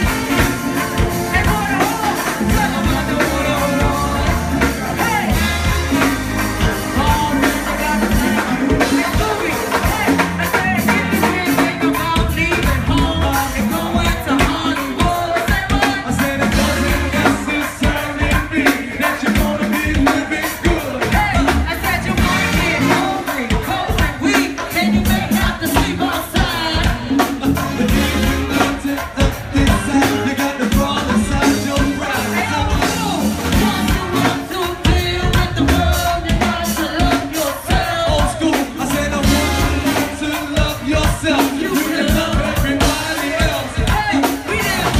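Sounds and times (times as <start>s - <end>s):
busy drum beat: 0.0s - 44.9s
live band playing: 0.0s - 44.9s
person singing: 0.0s - 44.9s.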